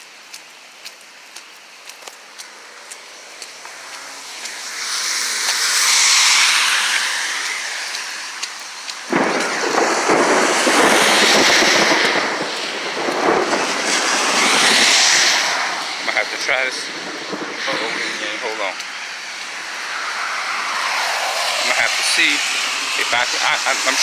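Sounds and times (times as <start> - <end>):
car tyres hissing on wet road: 0.0 - 24.0
loud crackling rush: 0.0 - 24.0.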